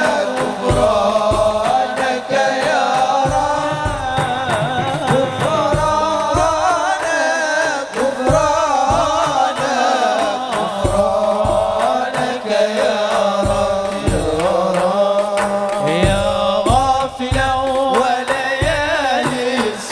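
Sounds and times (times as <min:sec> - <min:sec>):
deep drum beats: 0:00.0 - 0:19.9
person singing devotional melody: 0:00.0 - 0:19.9.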